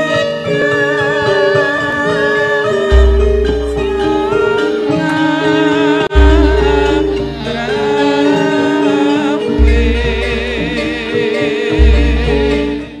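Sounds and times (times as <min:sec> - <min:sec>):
metallophone notes: 0:00.0 - 0:13.0
person singing: 0:00.0 - 0:13.0.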